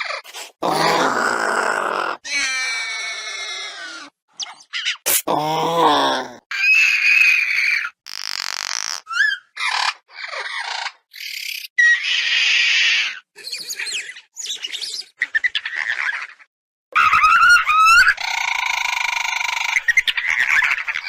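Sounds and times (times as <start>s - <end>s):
creature chirps and squeaks: 0.0s - 5.6s, 6.5s - 21.0s.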